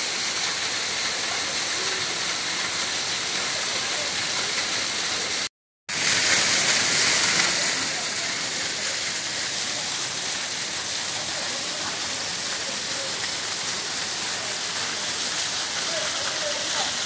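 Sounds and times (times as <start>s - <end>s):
waterfall splashing onto rocks: 0.0s - 17.0s.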